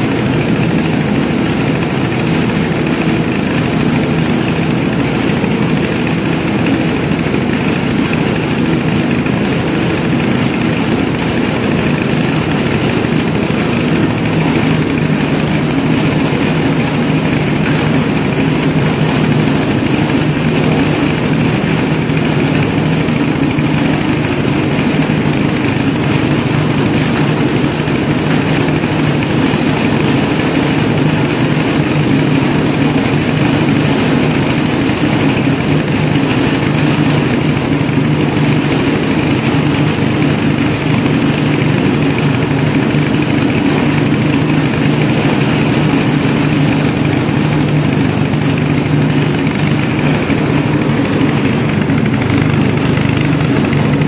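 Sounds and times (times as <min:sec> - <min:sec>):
thresher machine drone: 0:00.0 - 0:54.0.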